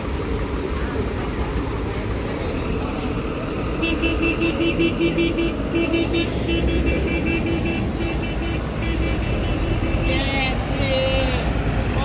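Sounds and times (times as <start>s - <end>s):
bus engines rumbling: 0.0s - 12.0s.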